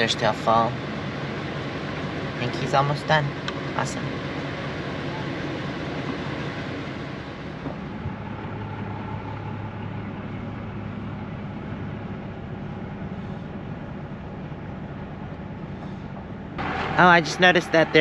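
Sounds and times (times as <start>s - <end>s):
motorhome engine droning: 0.0s - 18.0s.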